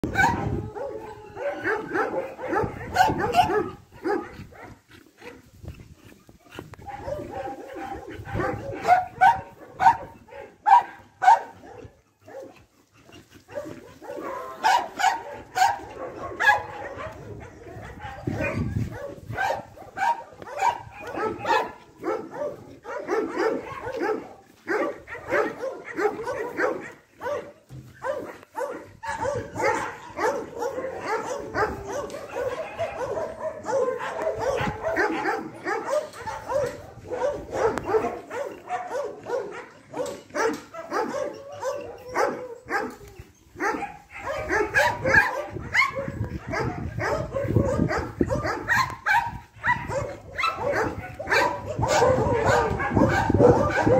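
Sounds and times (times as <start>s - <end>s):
dogs barking rapidly: 0.0s - 53.9s.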